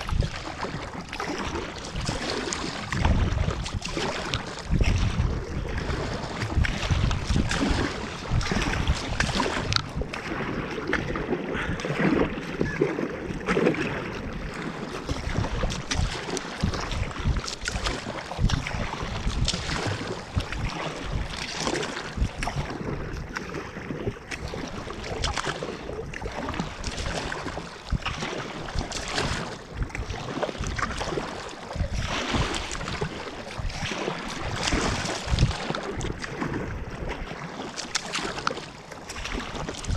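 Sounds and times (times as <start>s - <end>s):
paddle strokes splashing water: 0.0s - 39.9s
wind rumbling on microphone: 0.0s - 39.9s.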